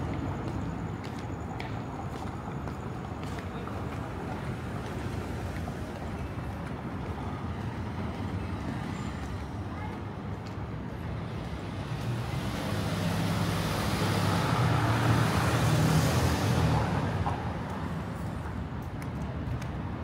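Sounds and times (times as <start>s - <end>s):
city traffic: 0.0s - 20.0s.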